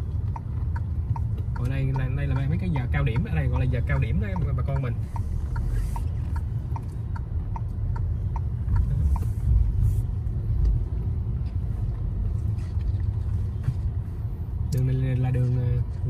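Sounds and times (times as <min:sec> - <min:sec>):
road and engine rumble in car: 0:00.0 - 0:16.0
turn signal ticking: 0:00.0 - 0:16.0.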